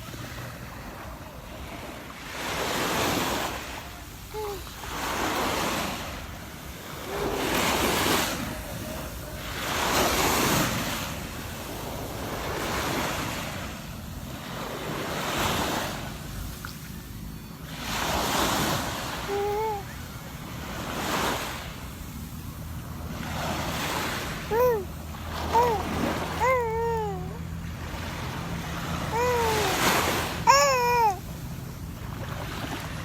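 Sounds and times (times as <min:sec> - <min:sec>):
sea waves washing onto beach: 0:00.0 - 0:17.2, 0:17.8 - 0:33.0.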